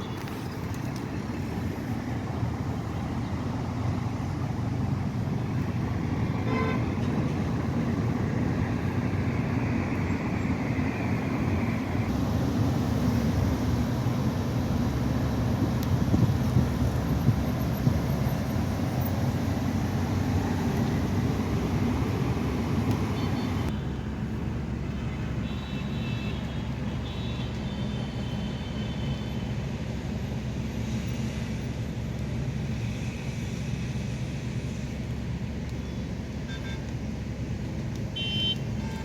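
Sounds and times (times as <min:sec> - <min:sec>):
low traffic rumble: 0:00.0 - 0:39.0.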